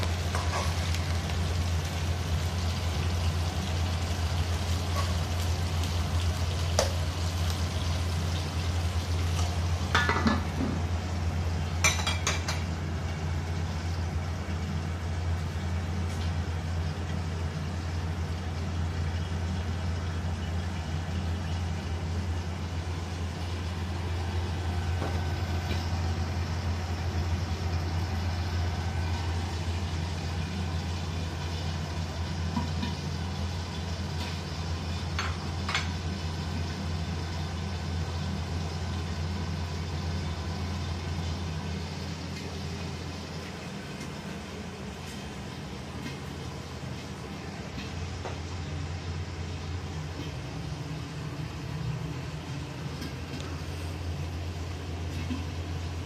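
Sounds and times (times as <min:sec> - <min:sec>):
gas burner droning hum: 0:00.0 - 0:56.0.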